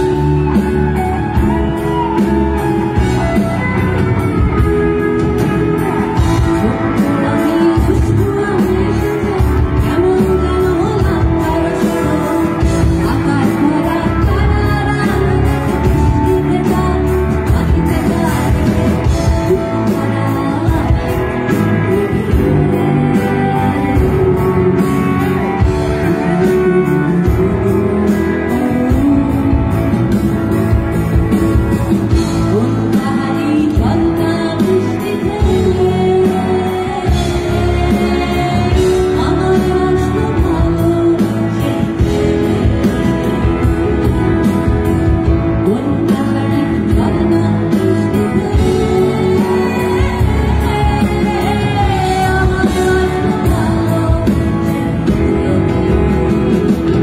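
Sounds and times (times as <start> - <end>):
instrumental accompaniment: 0.0 - 57.0
person singing: 0.0 - 57.0.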